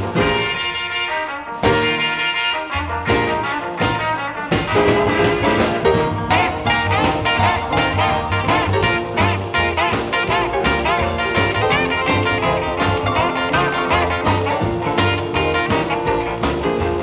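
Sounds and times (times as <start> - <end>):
swing jazz with brass: 0.0 - 17.0.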